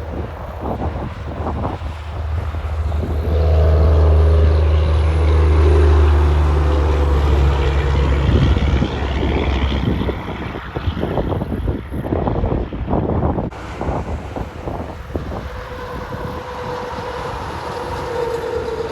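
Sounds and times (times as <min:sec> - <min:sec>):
diesel truck engine passing: 0:00.0 - 0:18.9
rushing tyre and wind noise: 0:00.0 - 0:18.9.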